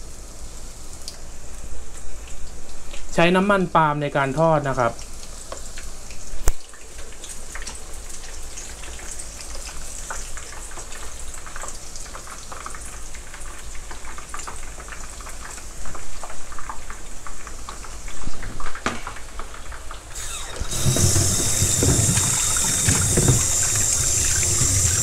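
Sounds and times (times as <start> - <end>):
oil sizzling while deep-frying: 0.0 - 25.0.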